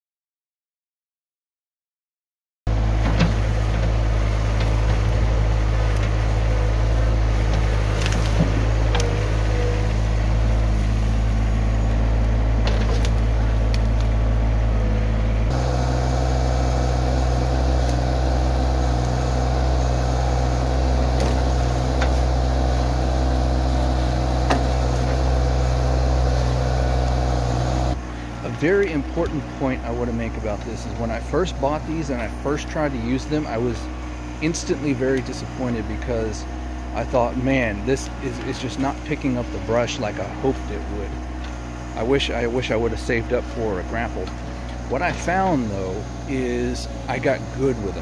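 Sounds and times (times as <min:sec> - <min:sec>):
tractor diesel engine running: 0:02.7 - 0:48.0.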